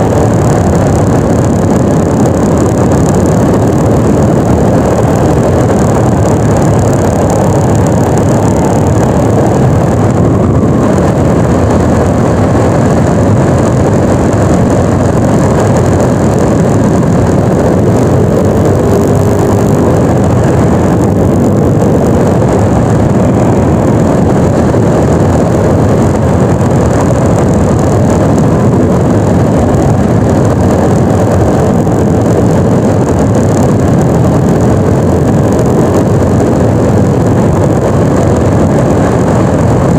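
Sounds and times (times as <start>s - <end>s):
road noise: 0.0s - 39.9s
scooter engine running: 0.0s - 39.9s.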